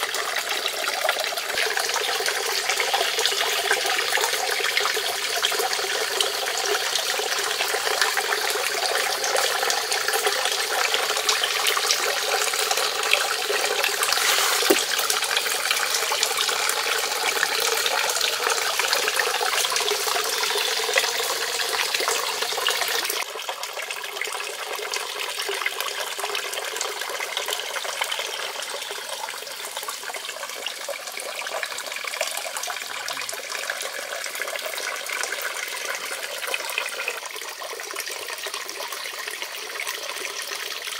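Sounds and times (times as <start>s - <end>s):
fountain water splashing into pond: 0.0s - 40.9s.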